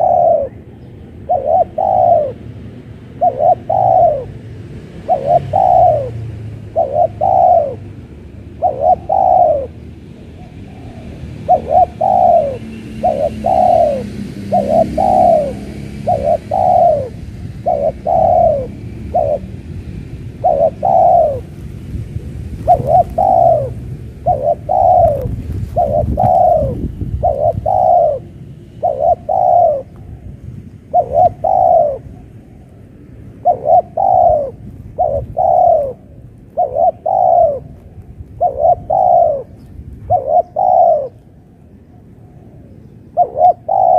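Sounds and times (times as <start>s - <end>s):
dove cooing: 0.0s - 43.9s.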